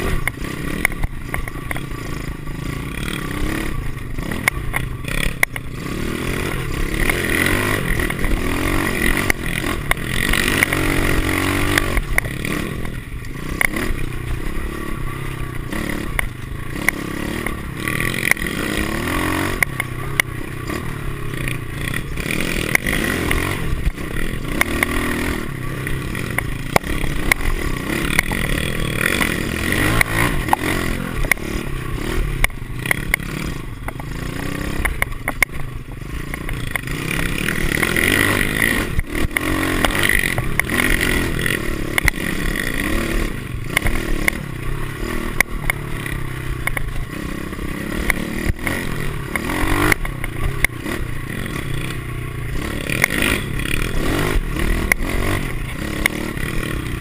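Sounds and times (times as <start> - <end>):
bike rattling and knocking: 0.0 - 57.0
motorbike engine revving: 0.0 - 57.0.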